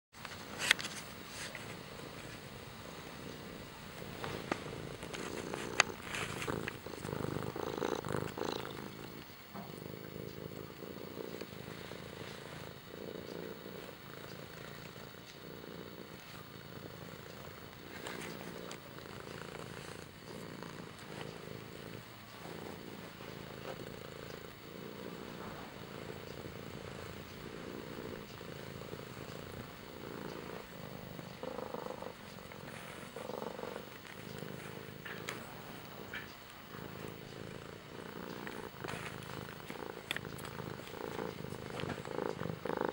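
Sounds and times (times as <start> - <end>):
cat purring: 0.2 - 42.9.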